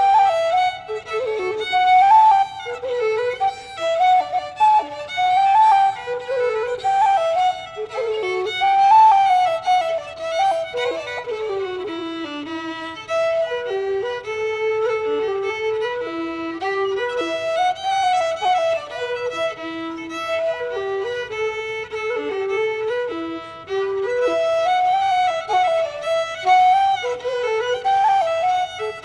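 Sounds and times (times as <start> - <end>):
solo fiddle melody: 0.0 - 29.0.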